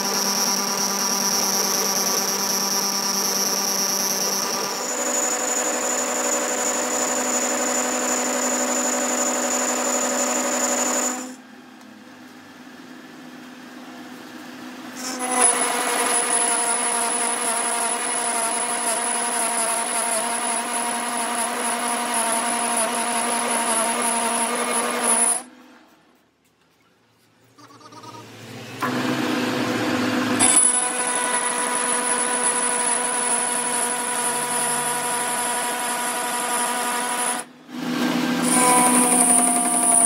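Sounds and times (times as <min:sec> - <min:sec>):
metal lathe cutting steel: 0:00.0 - 0:11.4, 0:15.0 - 0:25.5, 0:28.8 - 0:37.5, 0:38.4 - 0:40.0.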